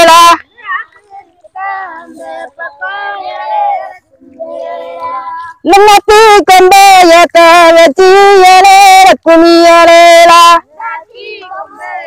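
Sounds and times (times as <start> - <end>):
woman singing unaccompanied: 1.5 - 12.0.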